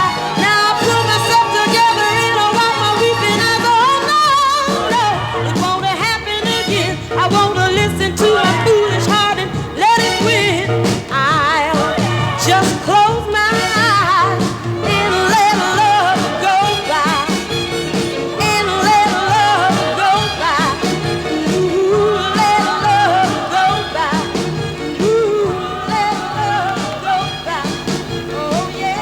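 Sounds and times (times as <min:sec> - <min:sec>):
soul music with singer and band: 0:00.0 - 0:29.0
steady drum beat: 0:00.0 - 0:29.0.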